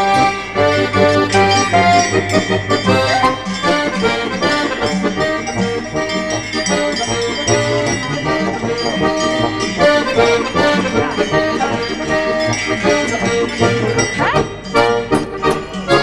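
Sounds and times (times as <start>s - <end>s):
folk accordion music: 0.0s - 16.0s.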